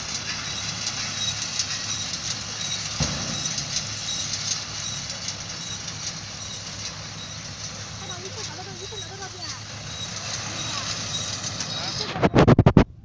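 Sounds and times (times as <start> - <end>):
tractor engine hum: 0.0 - 13.0
baler mechanism clatter: 1.2 - 12.7.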